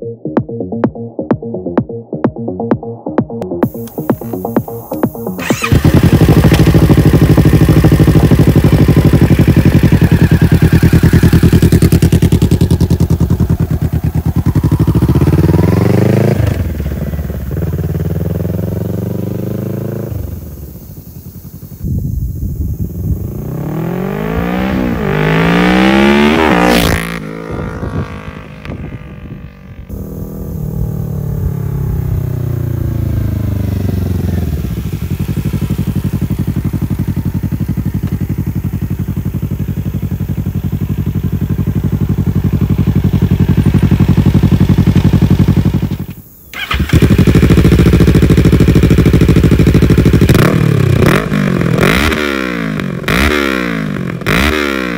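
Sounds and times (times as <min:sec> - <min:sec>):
motorcycle engine revving: 0:03.6 - 0:54.9.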